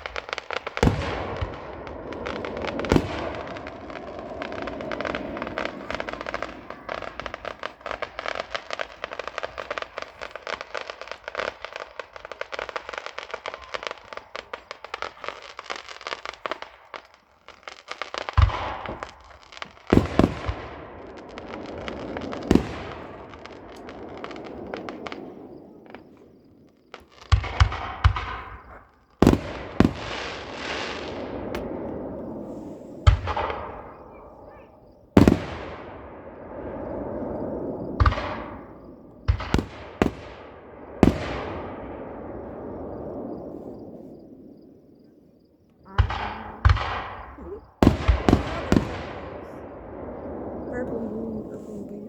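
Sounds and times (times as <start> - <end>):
fireworks bangs: 0.0 - 52.0
fireworks crackling: 0.0 - 52.0.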